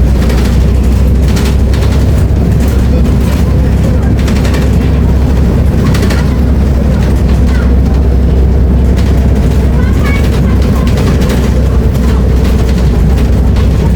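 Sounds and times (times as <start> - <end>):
bus diesel engine droning: 0.0 - 13.9.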